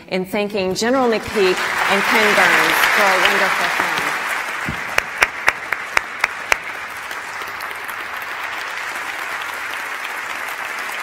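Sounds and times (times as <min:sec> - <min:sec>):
audience applauding: 0:00.9 - 0:11.0
sharp claps from one person: 0:01.6 - 0:11.0.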